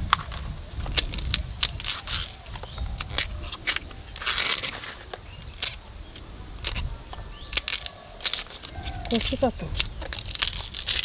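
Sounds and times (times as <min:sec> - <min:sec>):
bamboo husk crackling and tearing: 0:00.0 - 0:11.0.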